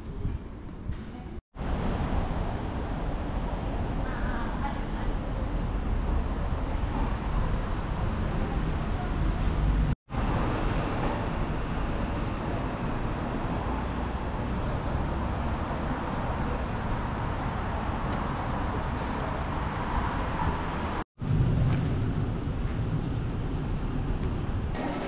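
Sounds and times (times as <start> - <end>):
road traffic rumble: 0.0 - 24.9.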